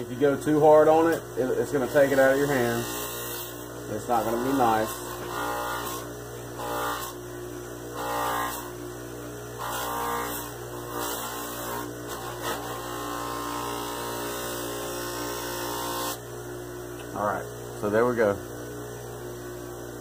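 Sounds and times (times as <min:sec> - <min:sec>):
bench buffer motor hum: 0:00.0 - 0:20.0.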